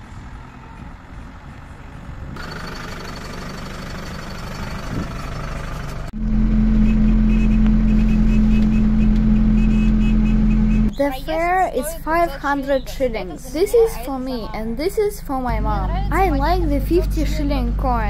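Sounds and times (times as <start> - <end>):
bus driving low drone: 0.0 - 18.0
minibus engine running: 0.0 - 18.0.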